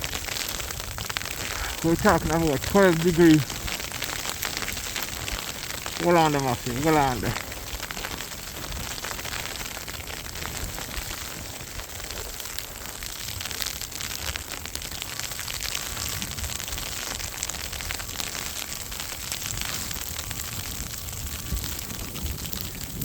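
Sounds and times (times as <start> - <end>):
crackling hiss: 0.0 - 23.0.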